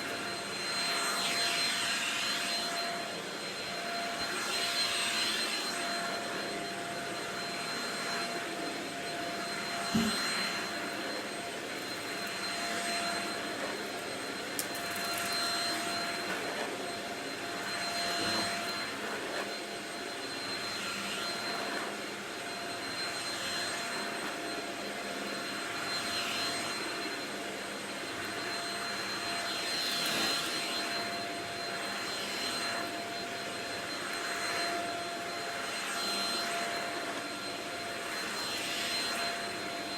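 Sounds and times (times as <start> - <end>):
stick vacuum whining: 0.0 - 39.9.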